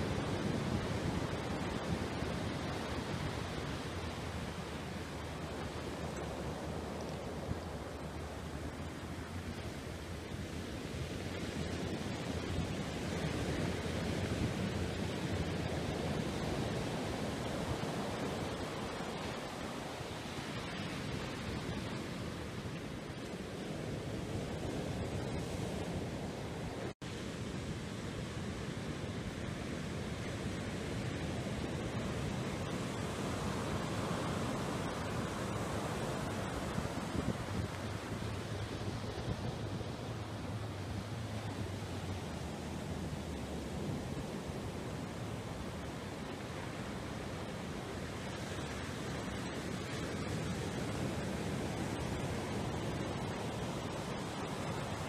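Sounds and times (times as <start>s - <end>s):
rushing wind noise: 0.0s - 55.0s.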